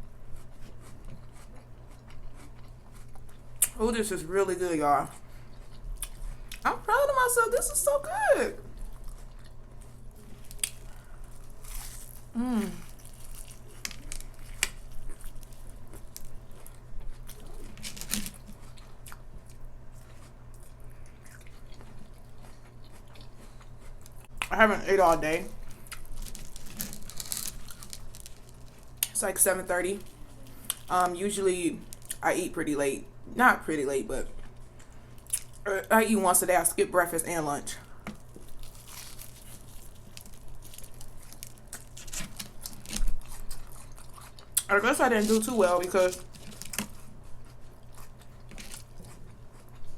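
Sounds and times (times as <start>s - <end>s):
chewing crunchy food: 0.0s - 3.8s, 5.1s - 6.7s, 8.6s - 24.5s, 25.6s - 31.1s, 31.8s - 32.2s, 34.3s - 35.7s, 37.8s - 49.9s.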